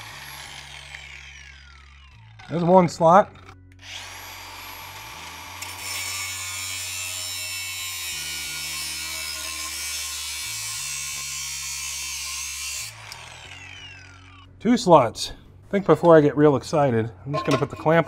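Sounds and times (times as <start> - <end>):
cutoff wheel grinding steel: 0.0 - 14.5.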